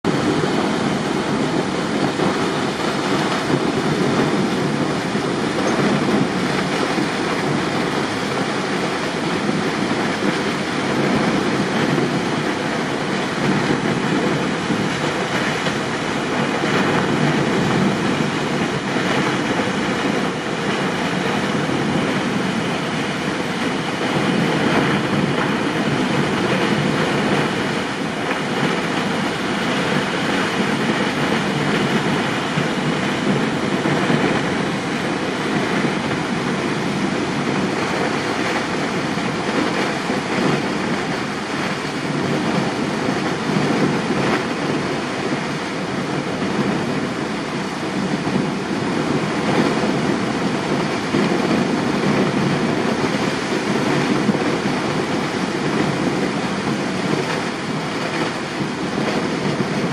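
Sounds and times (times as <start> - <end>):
waterfall rushing onto rocks: 0.0 - 59.9.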